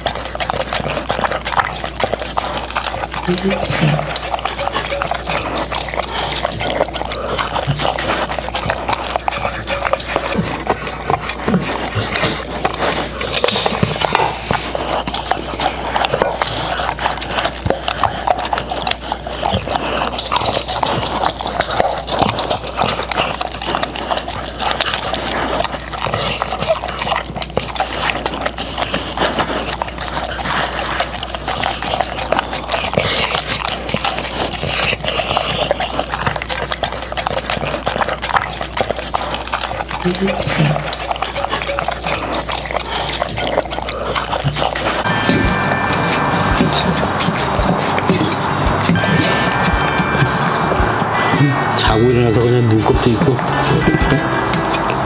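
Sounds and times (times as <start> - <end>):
dogs licking food: 0.0 - 55.0.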